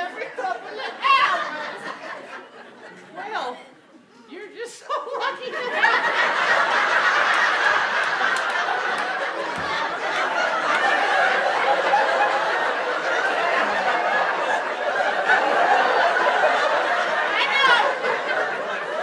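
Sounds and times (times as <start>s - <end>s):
audience laughing: 0.0s - 3.1s, 4.8s - 19.0s.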